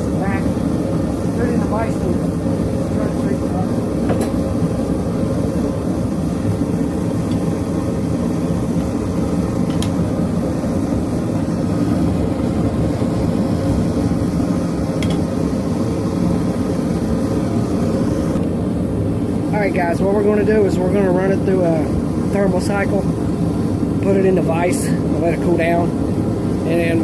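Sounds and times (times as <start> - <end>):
forge roaring: 0.0 - 27.0.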